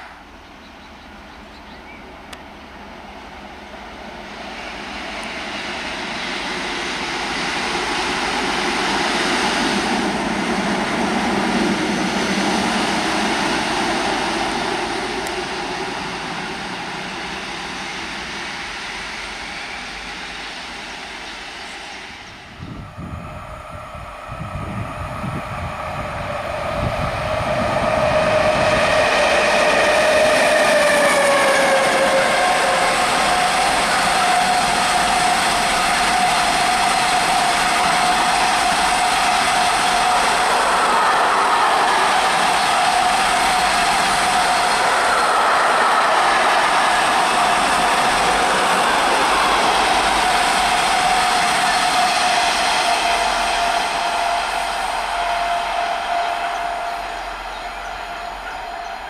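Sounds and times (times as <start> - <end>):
diesel locomotive passing: 0.0 - 59.0
electric locomotive whining tones: 0.0 - 59.0.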